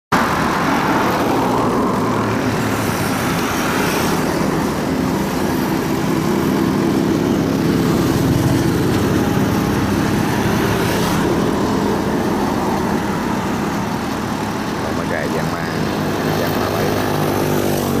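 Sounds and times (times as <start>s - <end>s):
tractor diesel engine running: 0.3s - 18.0s.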